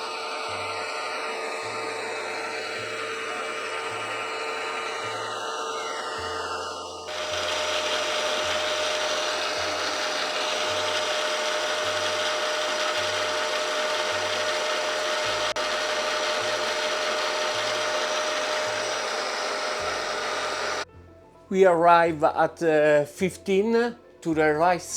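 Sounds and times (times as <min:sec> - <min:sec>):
milling machine cutting metal: 0:00.0 - 0:20.9.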